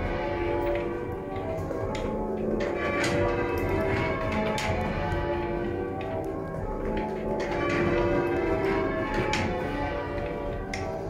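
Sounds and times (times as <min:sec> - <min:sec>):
humming bell overtones: 0:00.0 - 0:11.0
muffled church bells ringing: 0:00.0 - 0:11.0.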